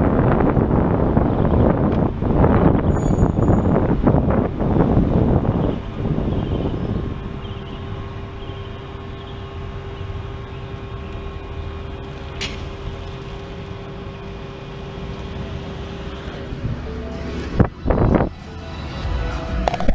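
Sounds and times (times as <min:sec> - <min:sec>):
car engine and road rumble: 0:00.0 - 0:19.9.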